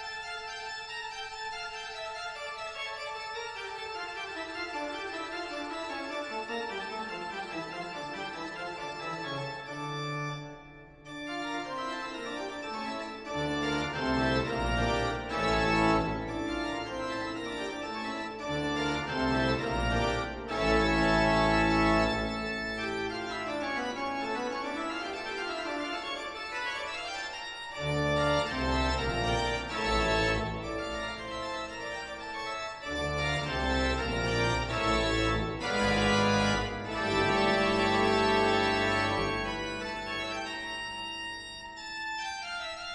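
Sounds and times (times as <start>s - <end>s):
organ music: 0.0s - 42.9s.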